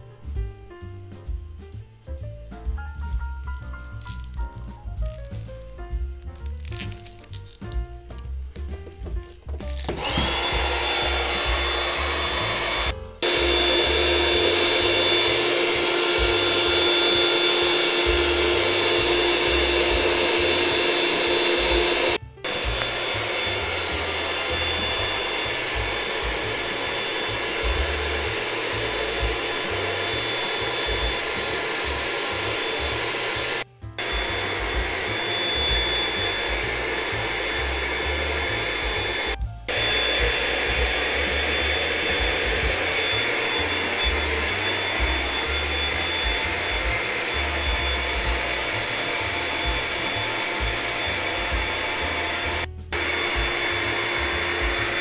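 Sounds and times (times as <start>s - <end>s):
electric air pump blowing: 2.9s - 5.5s, 6.4s - 55.0s.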